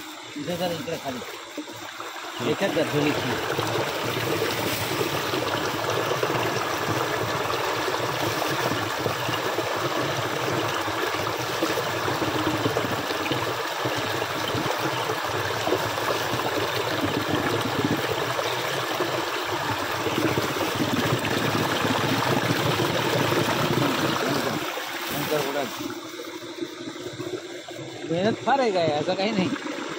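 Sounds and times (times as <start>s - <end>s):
stream water flowing and splashing: 0.0s - 29.9s.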